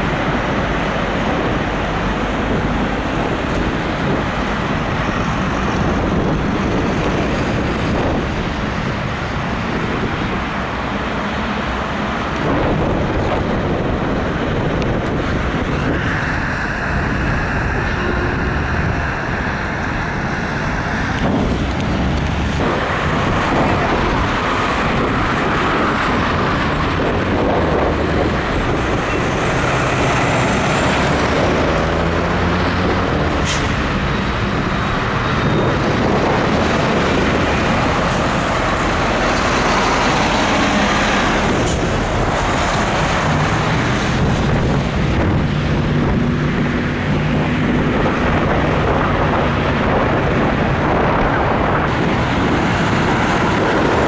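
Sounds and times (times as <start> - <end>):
diesel trucks driving past: 0.0 - 54.0
engine hum: 0.0 - 54.0.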